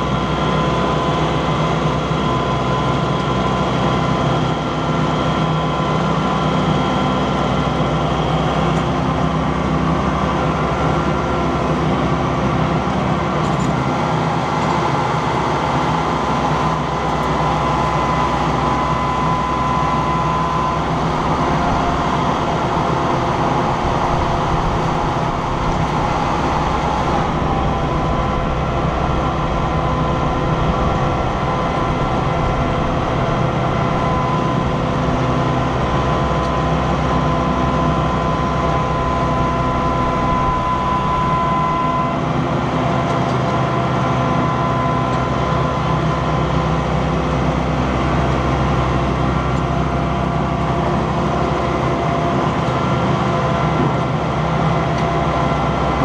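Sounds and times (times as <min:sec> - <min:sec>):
mower whine: 0:00.0 - 0:56.0
tractor diesel engine droning: 0:00.0 - 0:56.0.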